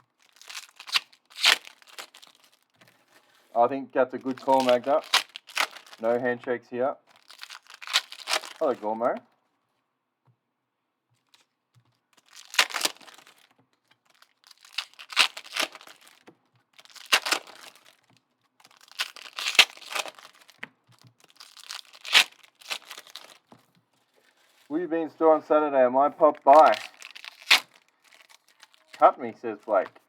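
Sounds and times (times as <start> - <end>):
plastic wrappers and cards crinkling: 0.0 - 6.4, 7.0 - 9.5, 11.2 - 24.8, 26.1 - 30.0.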